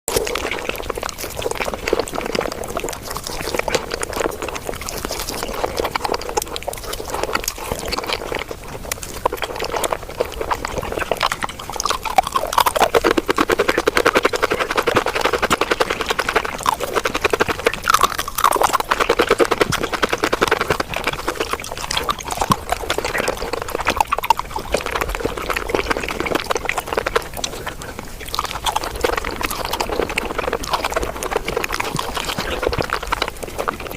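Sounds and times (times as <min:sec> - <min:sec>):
sped-up wet chewing sounds: 0:00.0 - 0:33.9.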